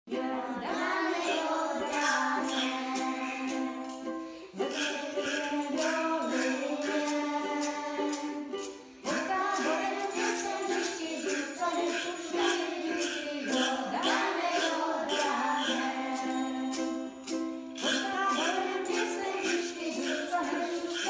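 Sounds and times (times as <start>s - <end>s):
children singing together: 0.1s - 21.0s
instrumental accompaniment: 0.1s - 21.0s
light percussion beat: 0.8s - 21.0s.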